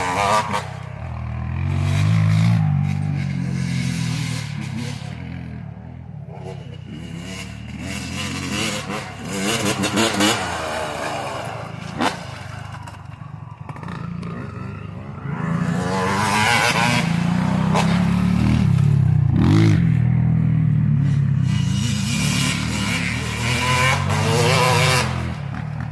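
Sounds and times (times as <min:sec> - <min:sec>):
motocross engines revving: 0:00.0 - 0:25.9.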